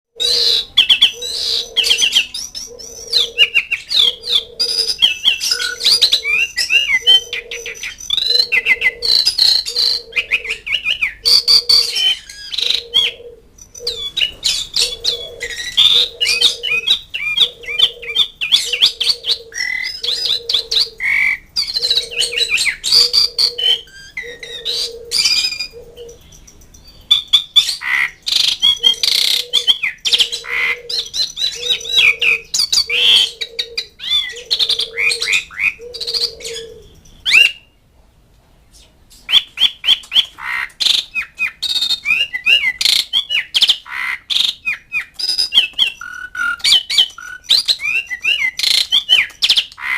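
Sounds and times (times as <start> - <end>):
starling chattering and whistling: 0.2 - 37.8, 39.2 - 49.9.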